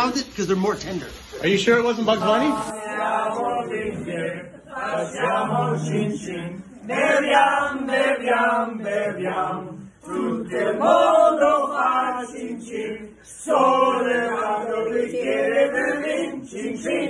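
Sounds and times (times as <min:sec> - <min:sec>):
group singing together: 0:01.8 - 0:17.0.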